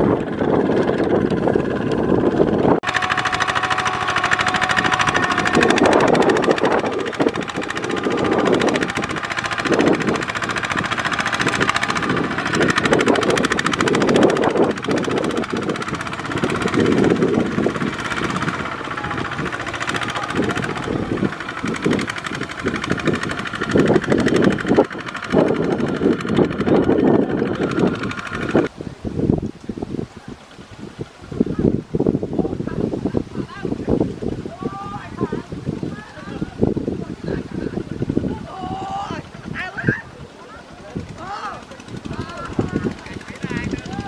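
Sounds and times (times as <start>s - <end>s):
diesel engine chugging: 0.0s - 28.7s, 33.6s - 44.0s.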